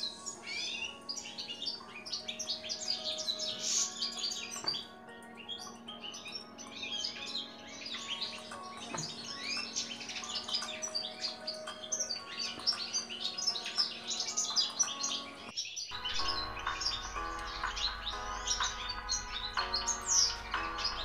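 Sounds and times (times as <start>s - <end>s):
goldfinch twittering: 0.0s - 21.0s.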